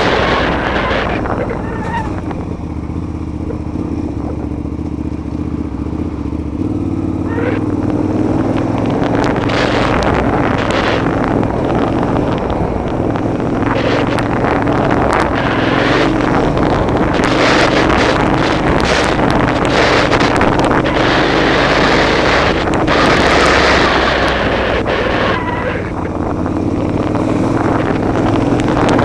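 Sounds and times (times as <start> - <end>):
wind noise: 0.0 - 5.3, 6.6 - 29.0
gravel noise: 0.0 - 29.0
motorcycle engine running: 0.0 - 29.0.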